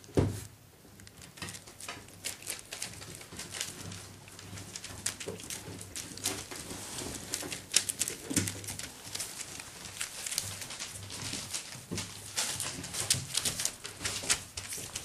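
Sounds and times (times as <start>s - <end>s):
claws and toys tapping wooden floor: 1.1s - 15.0s.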